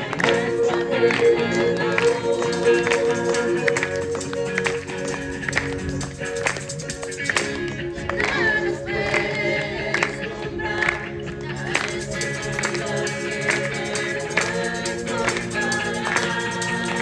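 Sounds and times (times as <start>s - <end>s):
hand clapping: 0.0s - 17.0s
strummed guitar music: 0.0s - 17.0s
voices: 0.0s - 17.0s.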